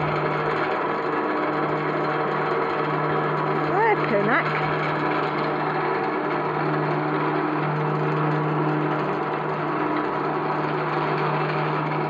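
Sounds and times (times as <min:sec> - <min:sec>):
cable running over pulleys whirring: 0:00.0 - 0:12.0.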